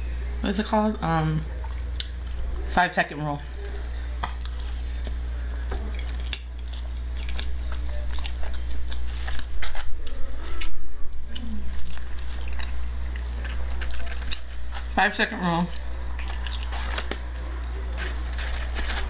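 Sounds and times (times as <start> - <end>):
steady low hum: 0.0 - 19.0
person chewing food: 3.7 - 19.0.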